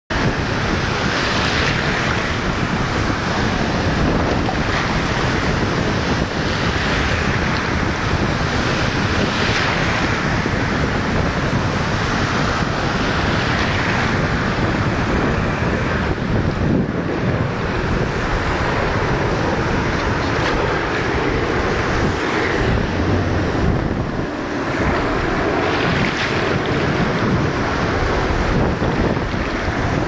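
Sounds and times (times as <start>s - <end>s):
small waves breaking in surf: 0.1s - 30.0s
wind on microphone: 0.1s - 30.0s.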